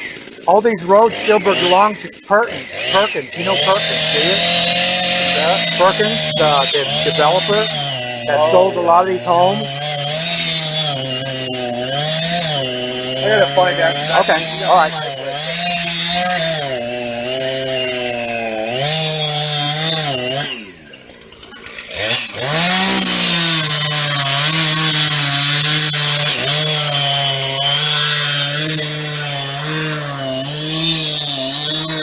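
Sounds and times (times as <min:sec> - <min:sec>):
chainsaw revving and idling: 0:00.0 - 0:32.0.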